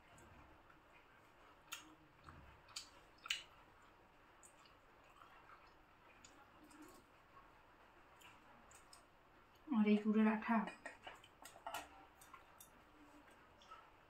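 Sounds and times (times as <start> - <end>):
wet clicks and squishes of eating: 0.0 - 9.7, 10.6 - 14.0.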